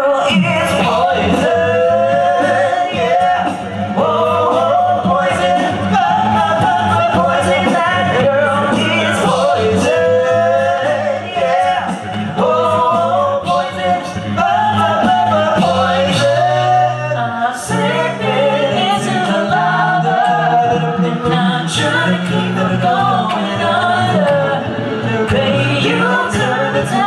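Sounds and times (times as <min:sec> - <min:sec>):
male group singing in harmony: 0:00.0 - 0:27.0.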